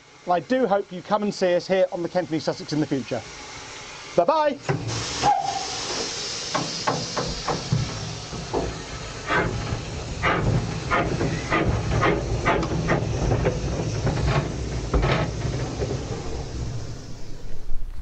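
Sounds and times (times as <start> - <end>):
steam hissing: 0.0 - 18.0
steam locomotive exhaust chuffs: 0.0 - 18.0.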